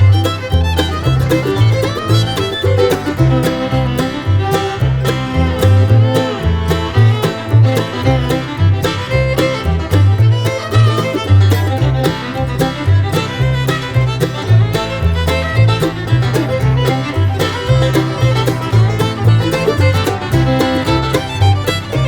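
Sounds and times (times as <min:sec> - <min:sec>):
stepping bass line: 0:00.0 - 0:22.0.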